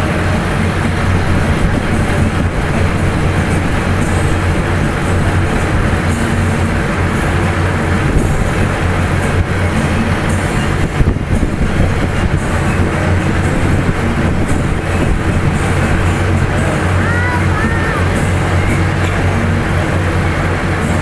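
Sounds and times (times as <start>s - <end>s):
road noise: 0.0s - 21.0s
vehicle engines droning: 0.0s - 21.0s.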